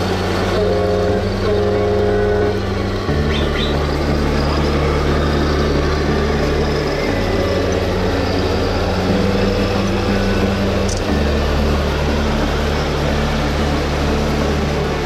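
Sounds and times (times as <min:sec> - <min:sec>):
busy exhibition hall din: 0:00.0 - 0:15.0
electronic diesel engine drone: 0:00.0 - 0:15.0.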